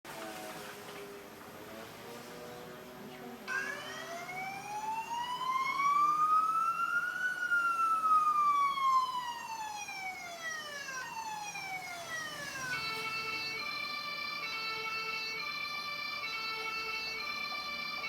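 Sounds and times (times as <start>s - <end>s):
voice imitating a siren: 3.4s - 18.0s.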